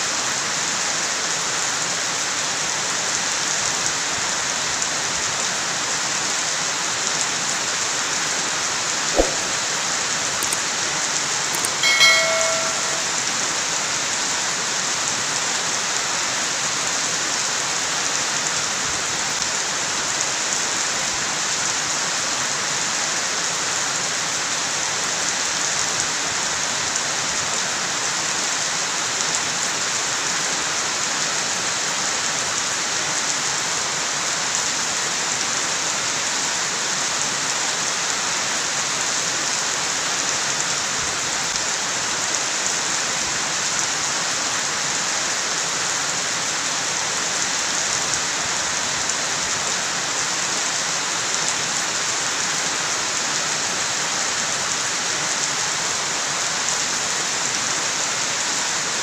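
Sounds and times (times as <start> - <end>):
steady rain on plants: 0.0 - 9.0, 13.5 - 59.0.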